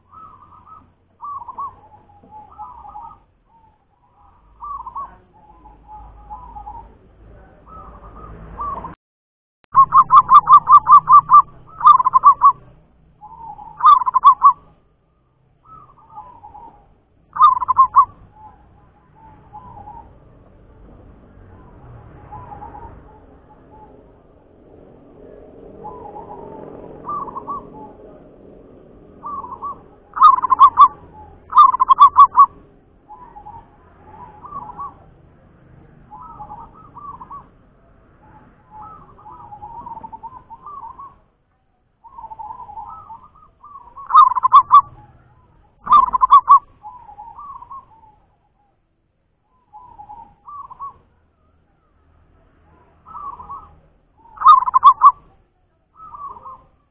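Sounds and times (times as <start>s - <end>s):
dove cooing: 0.0s - 9.0s, 9.8s - 14.8s, 15.6s - 41.4s, 42.0s - 48.7s, 49.5s - 56.9s.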